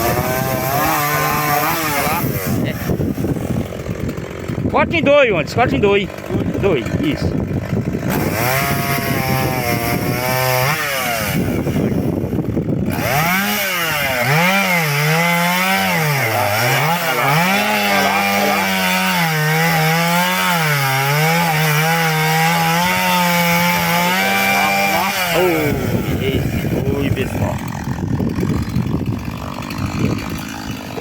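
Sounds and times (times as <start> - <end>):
chainsaw cutting log: 0.0 - 31.0.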